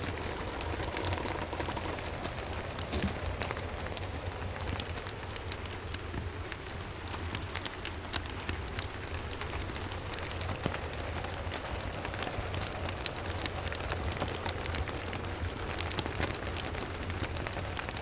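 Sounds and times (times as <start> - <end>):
low steady rumble: 0.0 - 17.8
fire crackling: 0.0 - 18.0
steady rain patter: 0.0 - 18.0.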